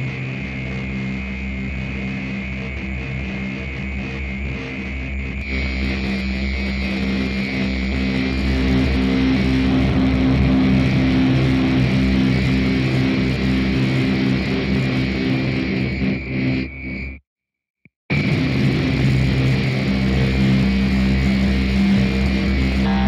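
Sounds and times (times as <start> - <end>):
sustained low bass drone: 0.0 - 16.3, 18.1 - 23.0.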